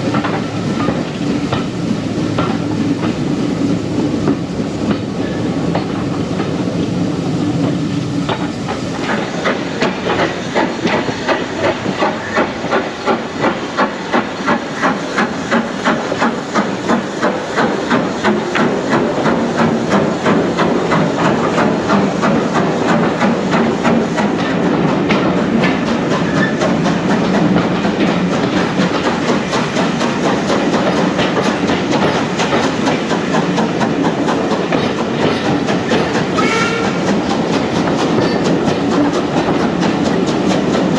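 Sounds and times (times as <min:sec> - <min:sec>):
steam locomotive hissing: 0:00.0 - 0:40.9
steam train chuffing beat: 0:00.0 - 0:40.9.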